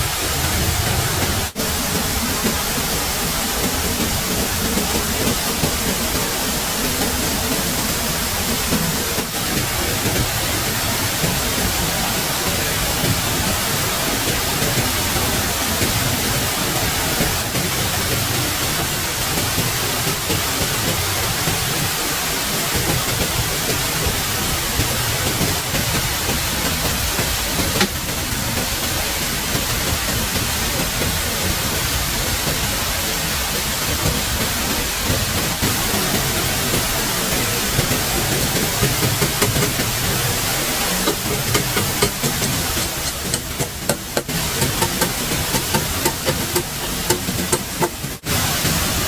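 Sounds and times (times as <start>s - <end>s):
water rushing: 0.0s - 49.0s.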